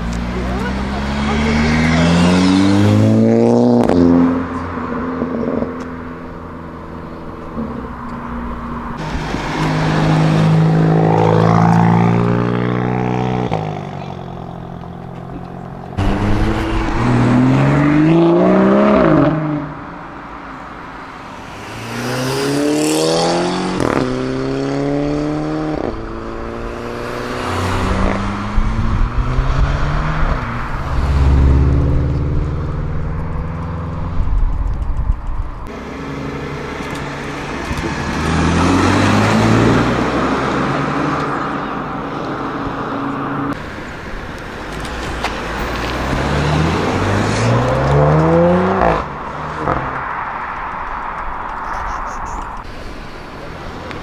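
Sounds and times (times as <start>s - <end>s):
sports cars accelerating: 0.0s - 34.3s, 35.6s - 54.0s.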